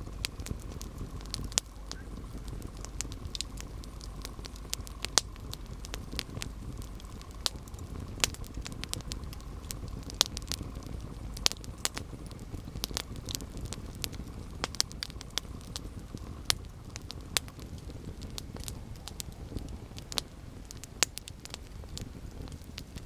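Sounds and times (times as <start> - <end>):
low rumble of flame: 0.0 - 23.0
wood crackling and popping: 0.0 - 23.0.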